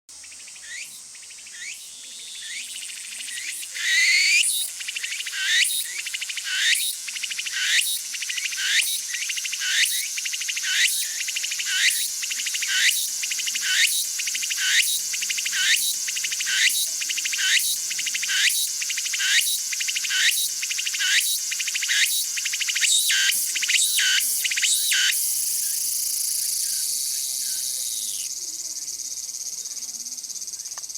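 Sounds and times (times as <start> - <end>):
cicada singing: 0.1 - 30.9.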